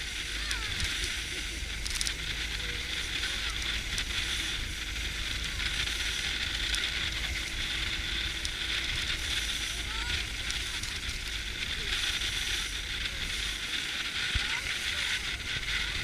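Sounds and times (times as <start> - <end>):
low rumble: 0.0 - 16.0
wind and water rushing past boat: 0.0 - 16.0.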